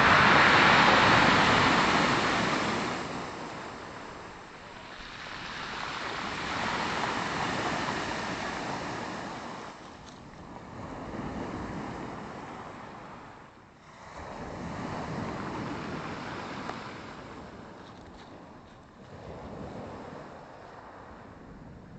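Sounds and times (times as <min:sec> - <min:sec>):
waves breaking on shore: 0:00.0 - 0:21.5.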